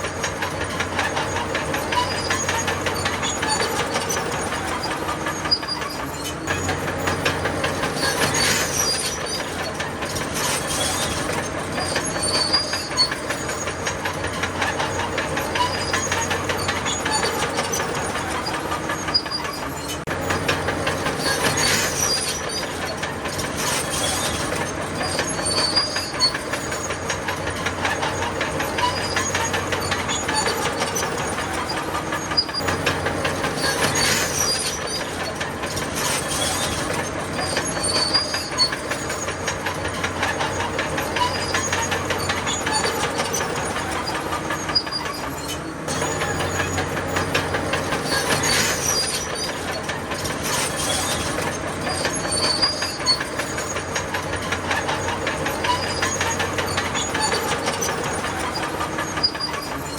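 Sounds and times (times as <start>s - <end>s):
diesel engine running: 0.0s - 59.9s
steel tracks clanking and squealing: 0.0s - 59.9s.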